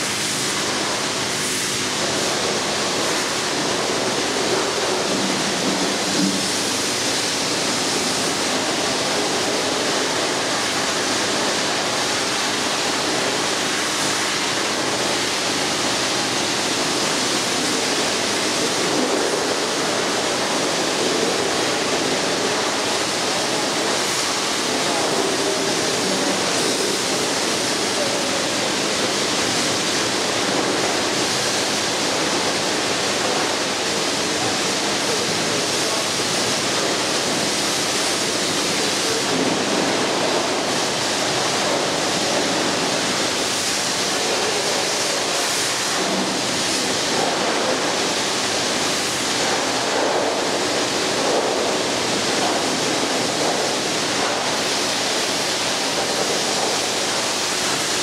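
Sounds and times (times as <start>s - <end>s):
pressure washer spraying water: 0.0s - 58.0s.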